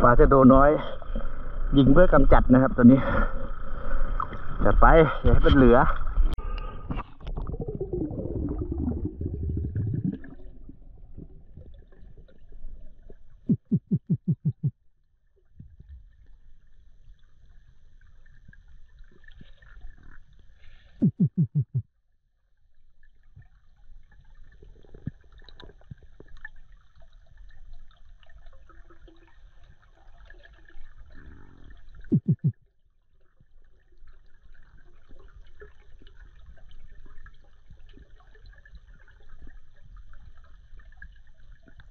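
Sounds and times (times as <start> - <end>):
low underwater rumble and hiss: 0.0 - 13.5, 15.0 - 21.0, 22.4 - 32.1, 32.8 - 41.9.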